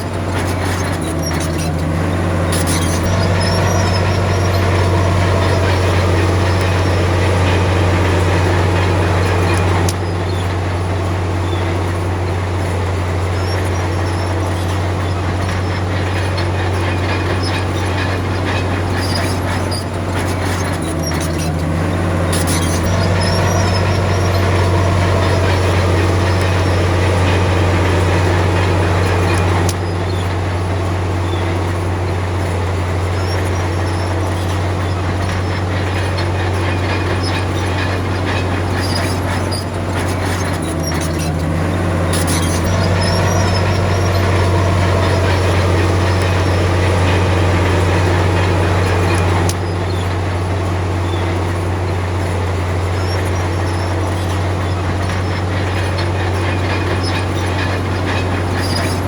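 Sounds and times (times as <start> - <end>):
bulldozer diesel engine running: 0.0 - 59.0
high metallic squeaks: 0.0 - 59.0.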